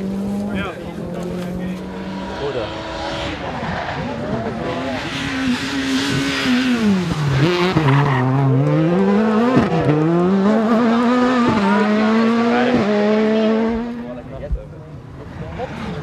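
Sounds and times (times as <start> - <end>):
rally car engine: 0.0 - 16.0.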